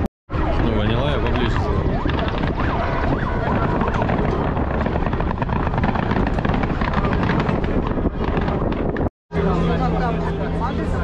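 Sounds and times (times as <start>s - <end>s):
helicopter rotor chopping: 0.6s - 10.2s.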